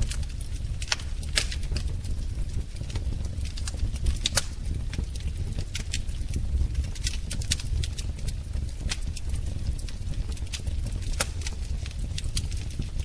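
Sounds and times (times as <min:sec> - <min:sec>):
fire pops and snaps: 0:00.0 - 0:13.0
low rumble of burning fire: 0:00.0 - 0:13.0.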